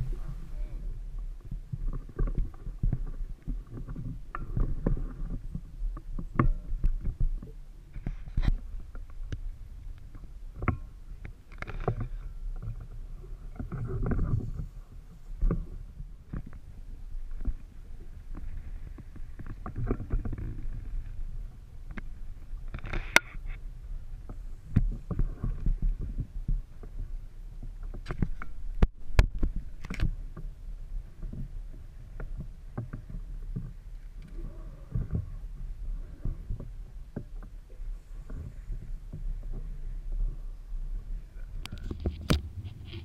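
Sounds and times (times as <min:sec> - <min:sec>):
steady low rumble: 0:00.0 - 0:43.0
water lapping against boat hull: 0:00.0 - 0:43.0.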